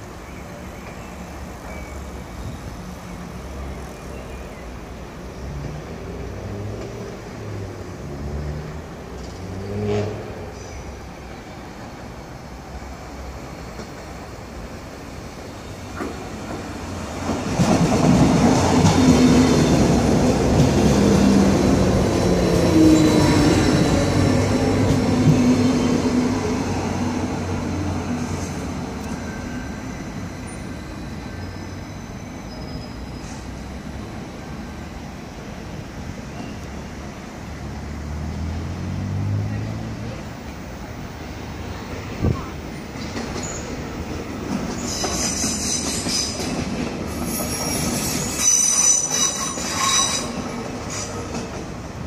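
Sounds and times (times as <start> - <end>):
electric train passing: 0.0 - 52.0.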